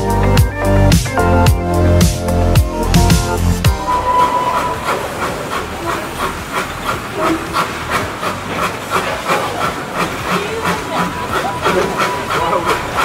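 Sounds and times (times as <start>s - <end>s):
steam locomotive exhaust chuffs: 0.0s - 13.0s
steady steam hiss: 1.8s - 13.0s.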